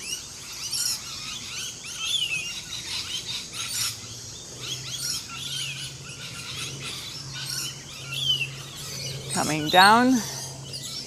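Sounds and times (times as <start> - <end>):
birds chirping and whistling: 0.0 - 11.0.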